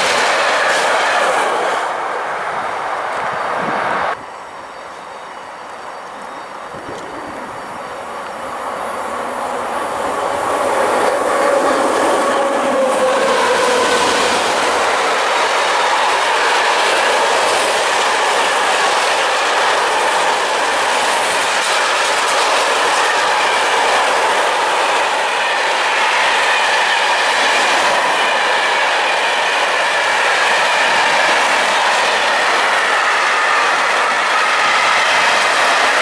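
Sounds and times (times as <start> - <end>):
electric locomotive whine: 0.0 - 36.0.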